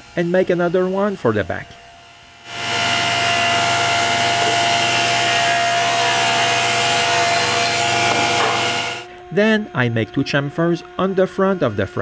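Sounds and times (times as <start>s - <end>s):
power saw cutting wood: 0.0s - 12.0s.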